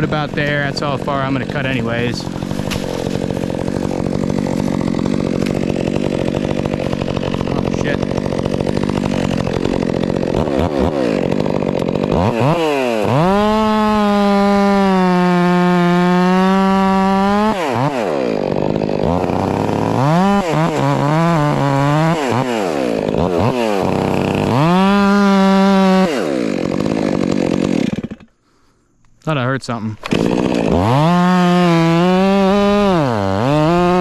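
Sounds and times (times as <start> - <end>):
chainsaw revving: 0.0 - 28.4, 29.9 - 34.0.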